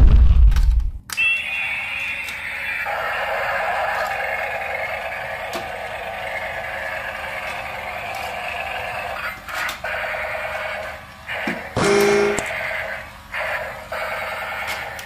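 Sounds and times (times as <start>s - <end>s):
toy motor and gears whirring: 1.1s - 15.0s.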